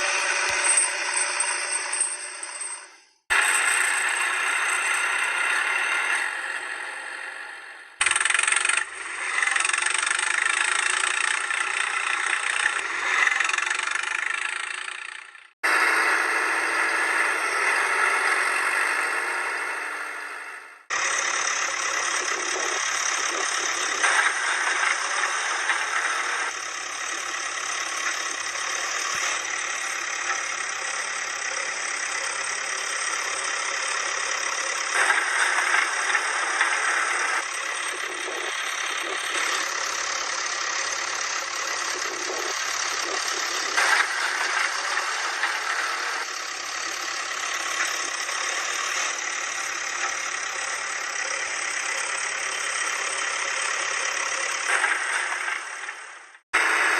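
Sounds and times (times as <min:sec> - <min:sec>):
heavy vehicle engine running: 0:00.0 - 0:56.9.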